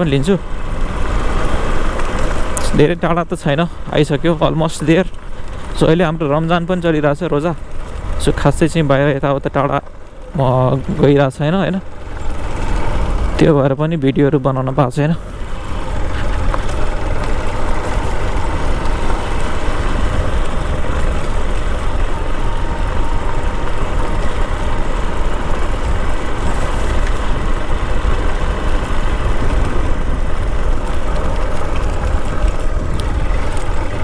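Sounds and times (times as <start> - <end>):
motorcycle engine rumbling: 0.0 - 34.0.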